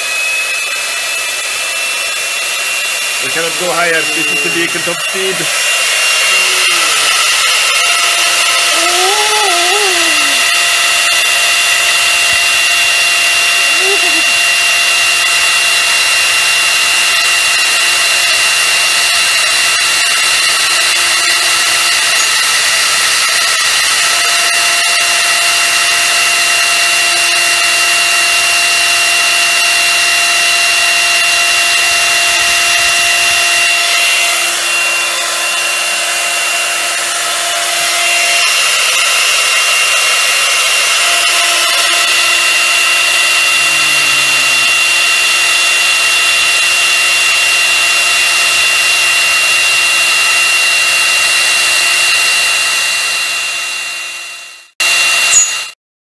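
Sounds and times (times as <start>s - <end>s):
milling spindle whine: 0.0s - 50.6s.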